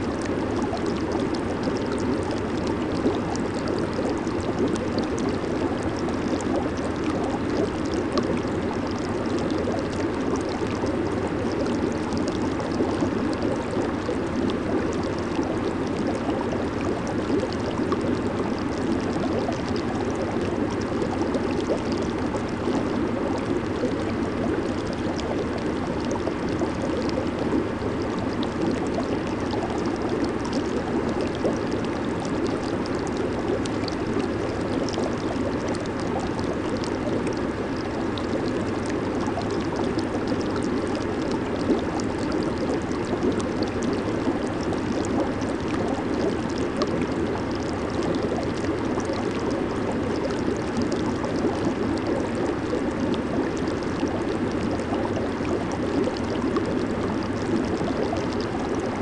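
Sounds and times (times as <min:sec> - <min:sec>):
jacuzzi water bubbling: 0:00.0 - 0:59.0.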